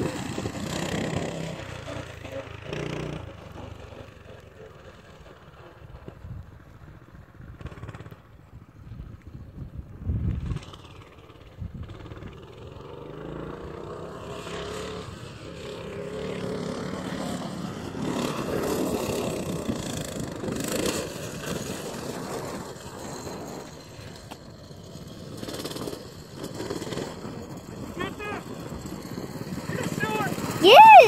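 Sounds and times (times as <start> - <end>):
minibike engine running: 0.0 - 31.0.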